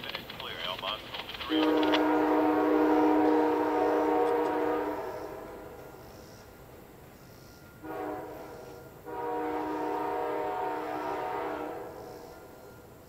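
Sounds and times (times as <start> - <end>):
distant locomotive air horn: 1.5 - 13.0.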